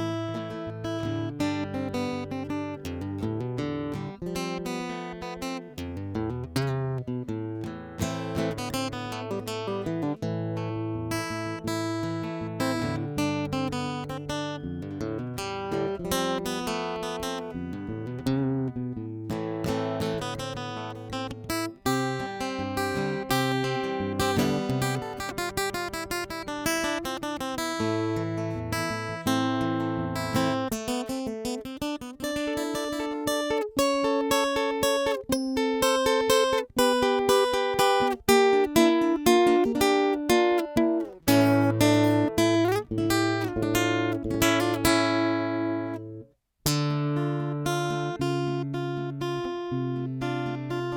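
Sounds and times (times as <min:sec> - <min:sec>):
acoustic guitar picking: 0:00.0 - 0:50.9.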